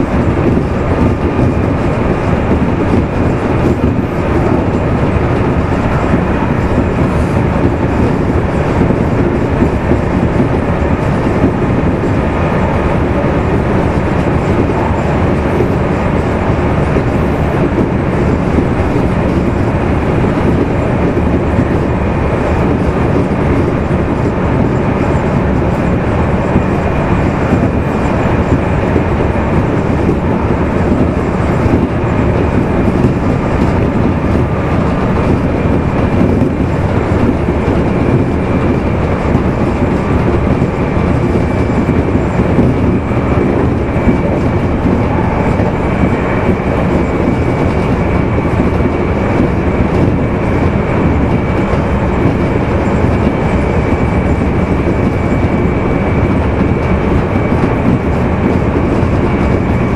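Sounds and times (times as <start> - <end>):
electric train wheels rumbling: 0.0 - 59.9.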